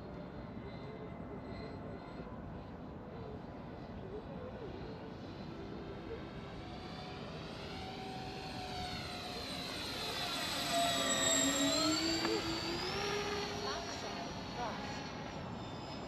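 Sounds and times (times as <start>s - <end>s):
model plane propeller drone: 0.0s - 16.0s.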